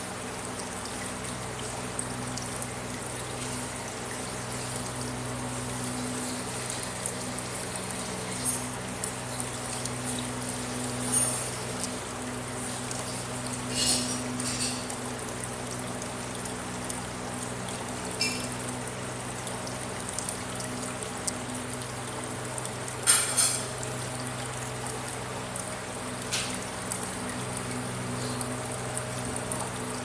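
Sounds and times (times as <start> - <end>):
aquarium pump hum: 0.0 - 30.0
water trickling and splashing: 0.0 - 30.0.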